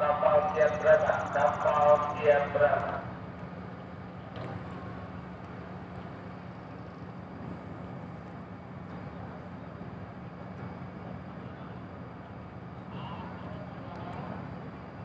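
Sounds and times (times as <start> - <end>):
ship engine hum: 0.0 - 15.0.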